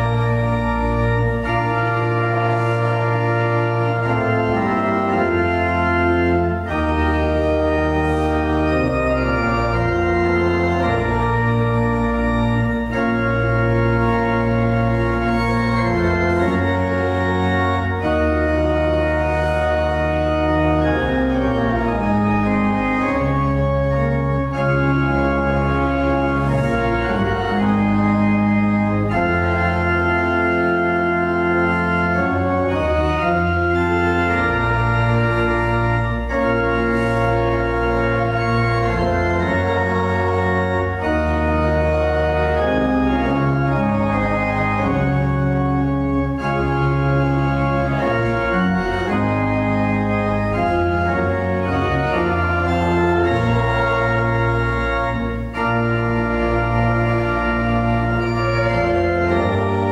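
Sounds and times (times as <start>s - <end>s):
organ playing hymn chords: 0.0s - 59.9s.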